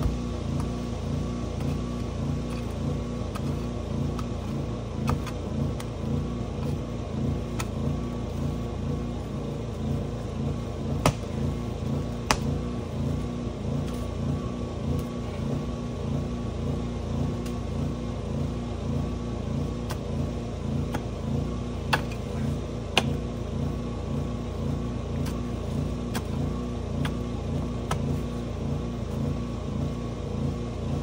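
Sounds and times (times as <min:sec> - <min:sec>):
engine running with low throb: 0:00.0 - 0:31.0.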